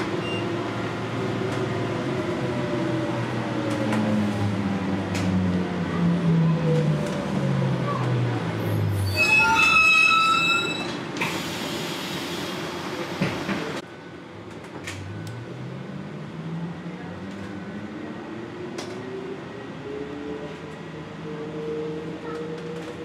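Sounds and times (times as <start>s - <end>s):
trolleybus running noise: 0.0s - 23.0s.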